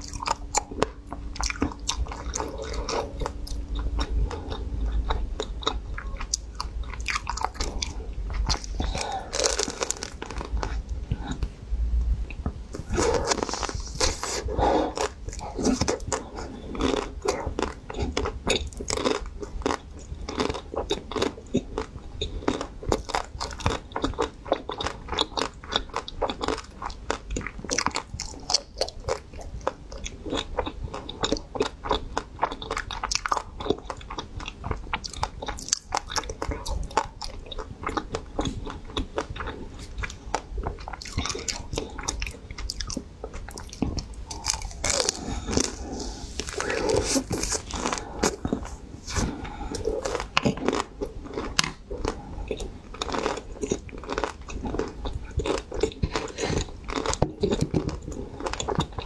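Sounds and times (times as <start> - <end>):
crunching and chewing ice cream: 0.0 - 11.5, 12.3 - 59.0.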